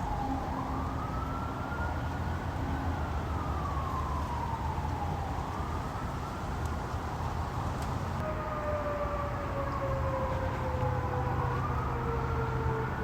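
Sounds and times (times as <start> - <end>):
police siren wailing: 0.0 - 6.6, 8.2 - 13.0.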